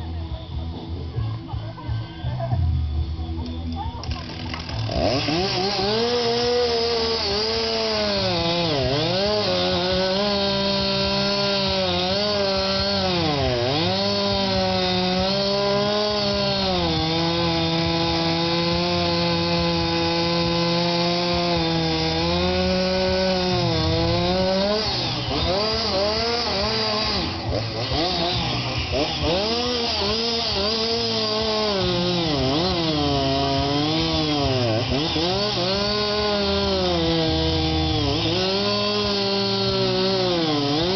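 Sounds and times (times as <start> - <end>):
chainsaw cutting wood: 3.2 - 40.9.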